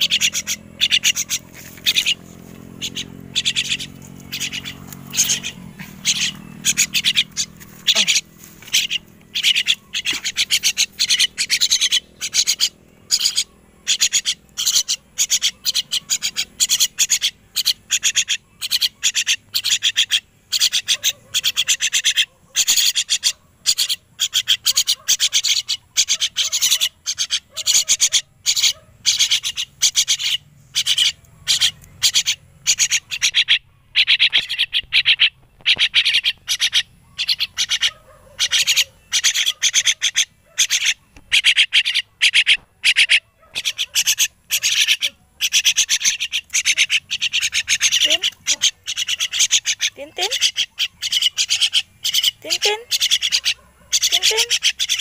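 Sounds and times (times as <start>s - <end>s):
young birds begging calls: 0.0s - 55.0s.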